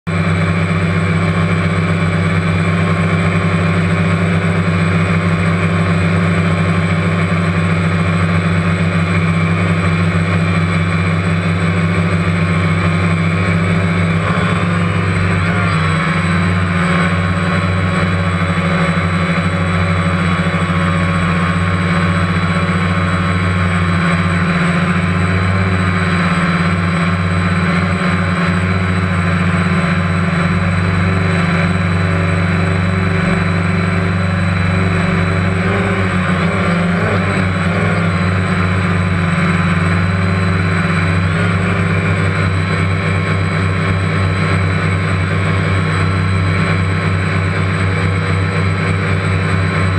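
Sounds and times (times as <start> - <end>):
drone propellers buzzing: 0.1 - 49.9.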